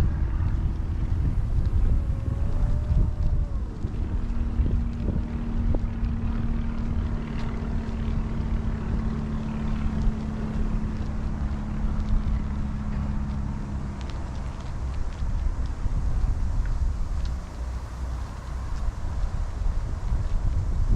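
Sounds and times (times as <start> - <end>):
engine hum: 0.0 - 20.9
wind buffeting microphone: 0.0 - 20.9.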